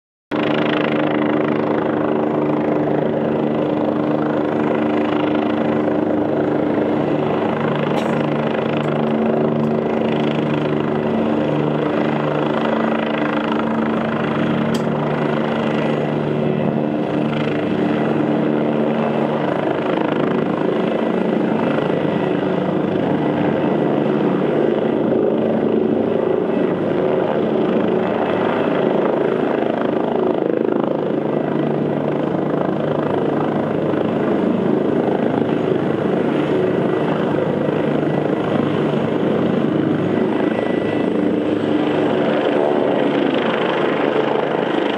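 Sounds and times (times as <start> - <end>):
helicopter rotor beat and engine hum: 0.3 - 44.9.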